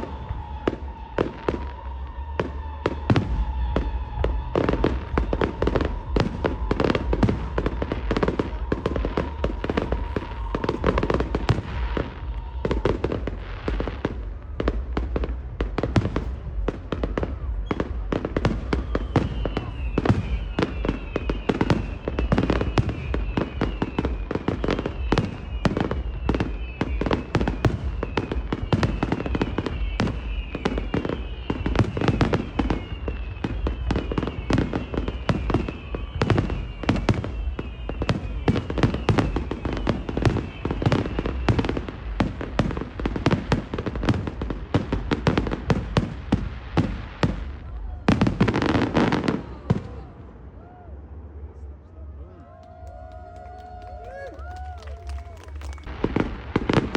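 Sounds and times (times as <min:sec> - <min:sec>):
deep rumbling boom: 0:00.0 - 0:48.6
fireworks bangs and crackles: 0:00.0 - 0:51.8, 0:52.5 - 0:56.9.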